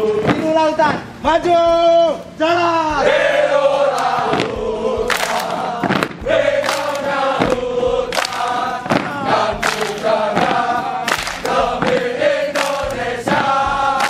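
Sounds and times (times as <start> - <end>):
men singing marching chant: 0.0 - 2.0, 2.6 - 14.0
sharp rhythmic beats: 0.0 - 14.0.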